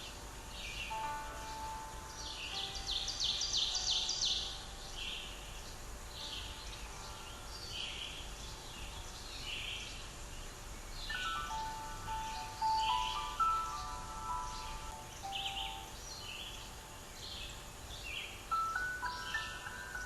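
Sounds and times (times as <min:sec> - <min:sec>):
background music: 0:00.0 - 0:20.0
birds chirping: 0:00.0 - 0:20.0.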